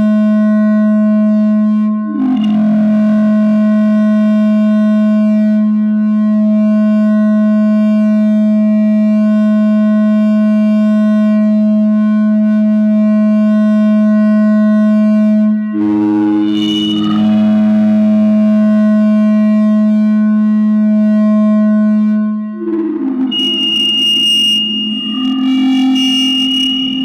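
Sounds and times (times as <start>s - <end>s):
mixer feedback drone: 0.0s - 27.0s.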